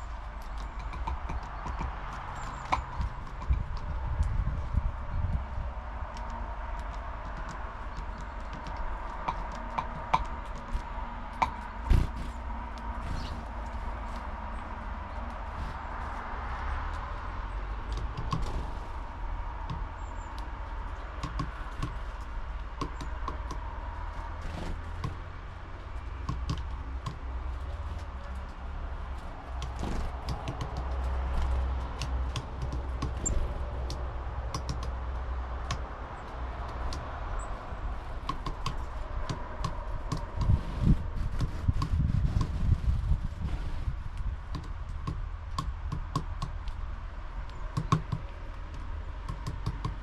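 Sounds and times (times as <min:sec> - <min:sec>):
birds pecking on wooden feeder: 0:00.0 - 0:50.0
wind rumble on microphone: 0:00.0 - 0:50.0.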